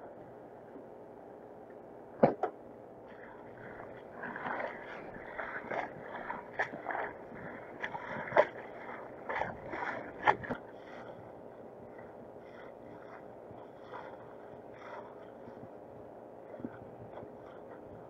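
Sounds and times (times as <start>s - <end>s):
water rushing along hull: 3.1s - 18.0s
waves slapping hull: 3.1s - 18.0s.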